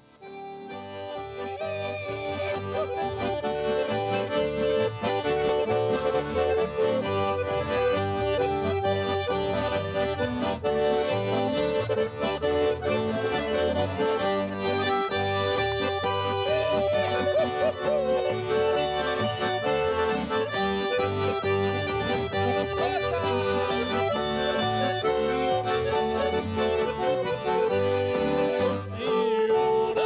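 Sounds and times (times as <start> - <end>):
button accordion folk music: 0.0 - 30.0.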